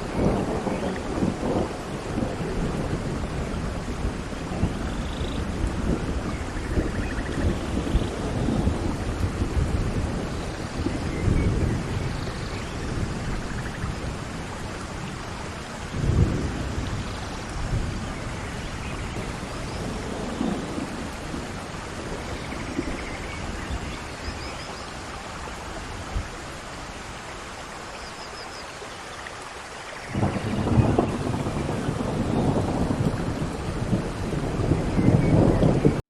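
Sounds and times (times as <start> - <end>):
thunder rumbling: 0.0 - 27.1, 30.1 - 36.0
steady rain falling: 0.0 - 36.0.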